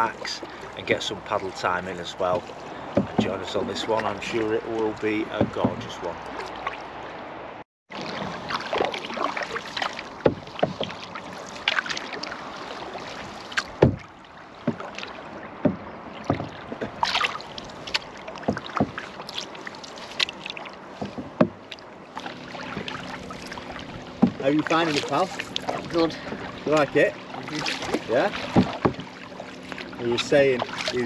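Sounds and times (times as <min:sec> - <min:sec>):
paddle knocking hull: 0:00.0 - 0:06.8, 0:08.0 - 0:31.0
hiss of water and wind: 0:00.0 - 0:31.0
paddle splashing water: 0:00.0 - 0:31.0.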